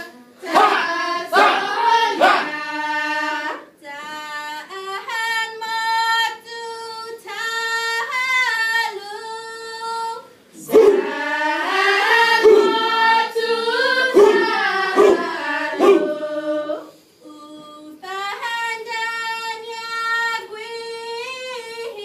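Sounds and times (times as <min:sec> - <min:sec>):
women chanting in unison: 0:00.0 - 0:09.2, 0:10.1 - 0:22.0.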